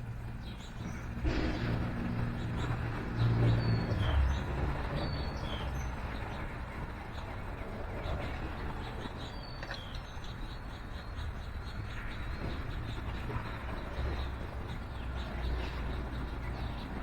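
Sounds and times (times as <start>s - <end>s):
passing traffic rumble: 0.0s - 17.0s
songbirds chirping: 0.0s - 17.0s.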